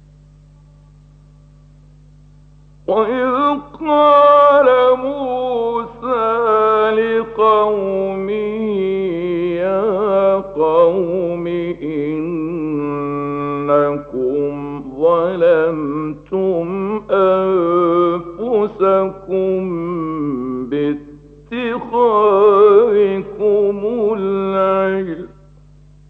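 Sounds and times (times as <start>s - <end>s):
low hum: 0.0s - 26.0s
man reciting melodically: 2.9s - 25.4s.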